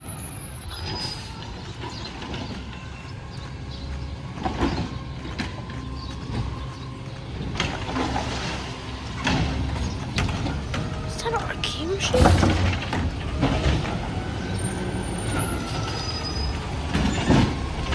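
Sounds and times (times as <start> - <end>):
garbage truck engine rumbling: 0.0 - 17.9.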